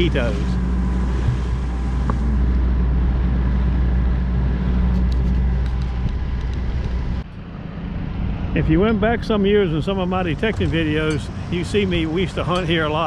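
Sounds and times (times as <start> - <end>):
boat motor humming: 0.0 - 13.0
water: 0.0 - 13.0.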